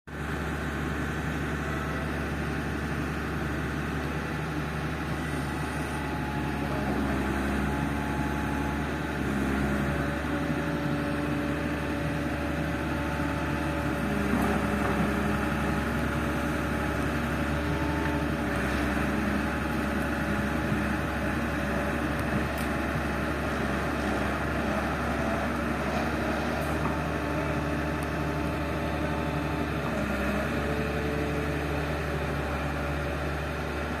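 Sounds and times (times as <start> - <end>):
excavator diesel engine running: 0.1 - 34.0.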